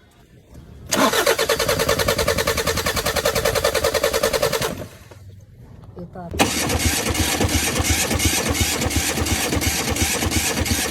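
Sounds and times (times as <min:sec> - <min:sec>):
car starter motor cranking: 0:00.9 - 0:05.3, 0:06.4 - 0:10.9.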